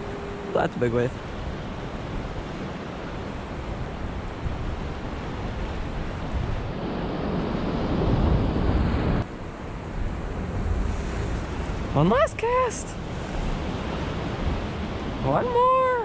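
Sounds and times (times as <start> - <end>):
ocean surf washing against rocks: 0.0 - 16.0
wind buffeting microphone: 0.0 - 16.0.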